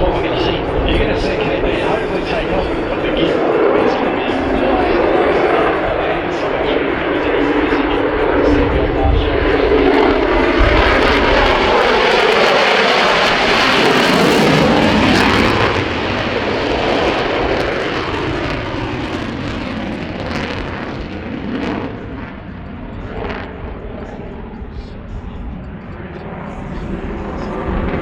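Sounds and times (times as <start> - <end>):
fighter jet flying past: 0.0 - 28.0.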